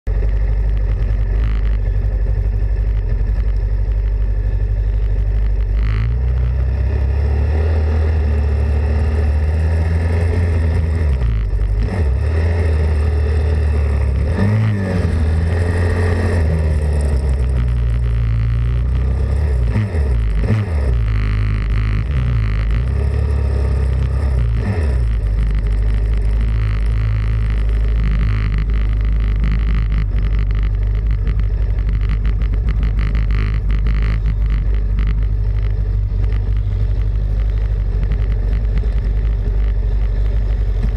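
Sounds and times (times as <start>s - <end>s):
low rumble: 0.1s - 40.9s
pit bike engine revving: 0.1s - 40.9s.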